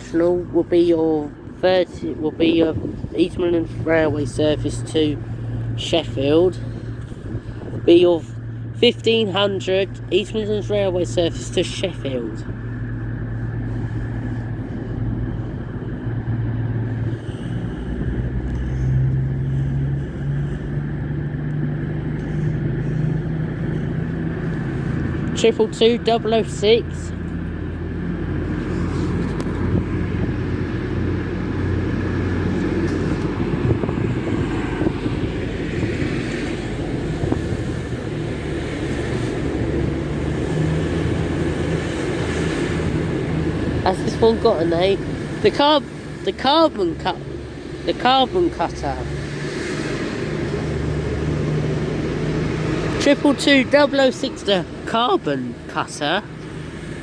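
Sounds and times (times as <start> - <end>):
diesel train engines rumbling: 0.0 - 57.0.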